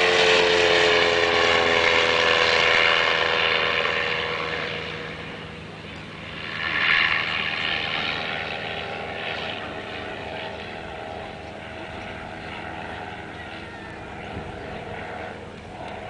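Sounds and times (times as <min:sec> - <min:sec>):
aircraft engine droning overhead: 0:00.0 - 0:16.0.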